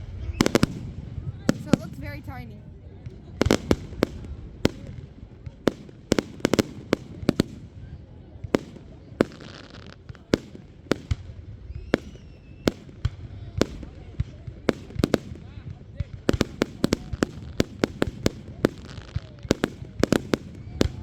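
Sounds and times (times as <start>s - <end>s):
fireworks crackling hiss: 0.0s - 2.6s, 3.3s - 21.0s
fireworks bangs: 0.0s - 21.0s.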